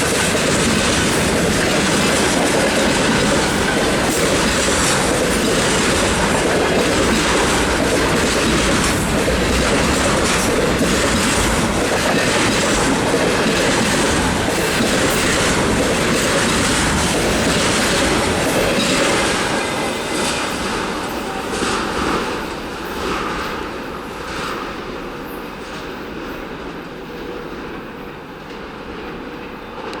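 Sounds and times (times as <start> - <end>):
train wheels clickety-clack: 0.0 - 30.0.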